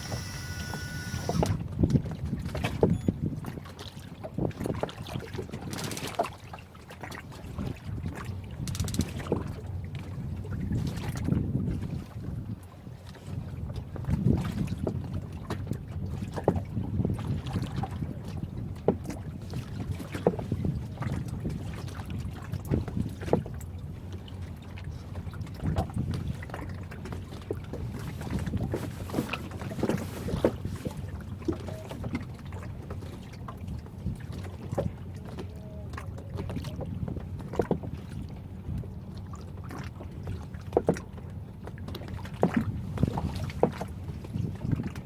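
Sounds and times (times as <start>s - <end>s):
boat low rumble: 0.0s - 45.0s.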